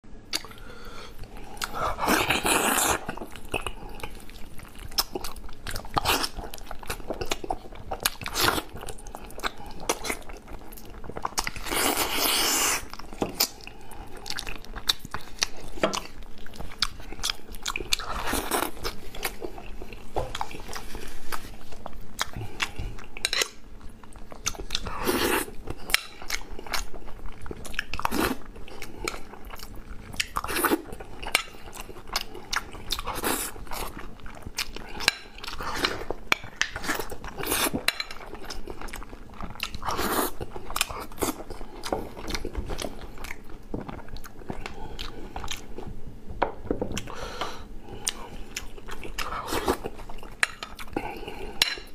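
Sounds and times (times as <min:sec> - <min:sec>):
person biting and chewing food: 0:00.2 - 0:45.8.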